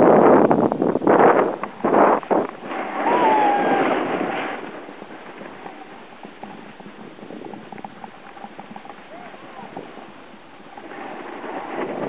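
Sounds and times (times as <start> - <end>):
snowboard scraping over snow: 0.0 - 12.0
wind buffeting microphone: 0.0 - 12.0.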